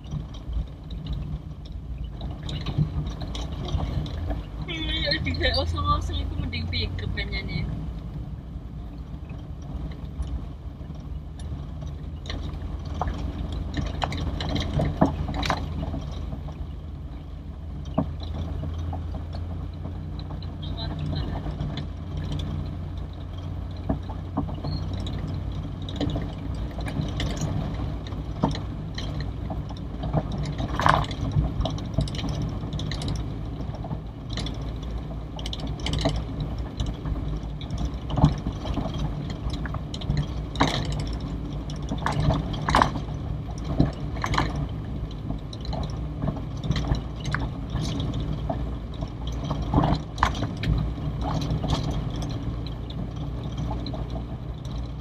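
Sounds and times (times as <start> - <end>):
body and suspension rattles: 0.0 - 55.0
car engine and road drone: 0.0 - 55.0.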